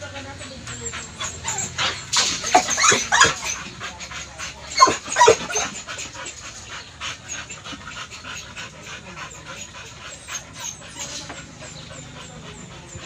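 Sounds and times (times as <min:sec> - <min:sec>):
dogs whining and yipping: 0:00.4 - 0:13.0.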